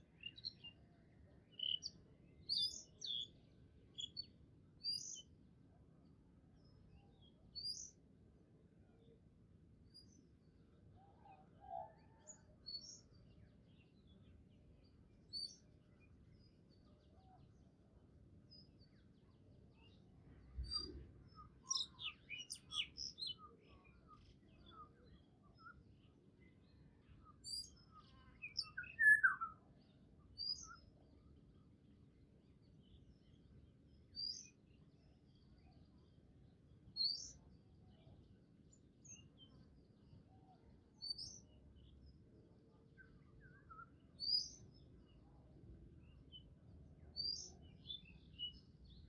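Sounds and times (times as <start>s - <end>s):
small birds chirping: 0.0s - 5.4s, 6.5s - 8.0s, 11.0s - 17.7s, 18.5s - 49.0s.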